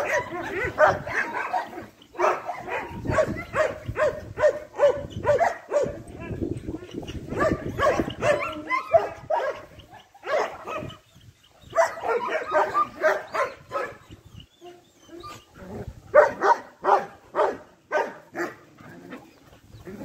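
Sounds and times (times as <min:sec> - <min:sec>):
dogs barking: 0:00.0 - 0:14.3, 0:16.1 - 0:18.7.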